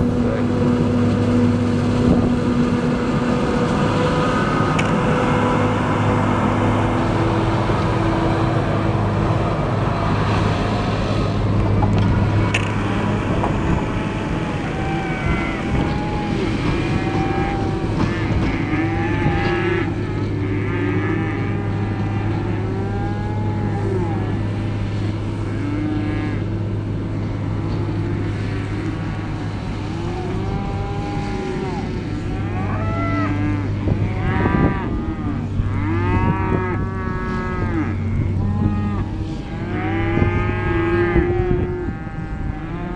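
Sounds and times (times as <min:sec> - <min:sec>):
cattle mooing: 0:00.0 - 0:42.9
diesel engine hum: 0:00.0 - 0:42.9.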